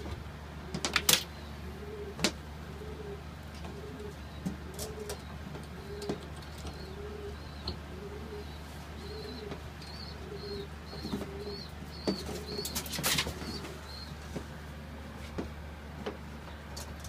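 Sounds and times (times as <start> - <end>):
pigeons cooing: 0.6 - 15.2.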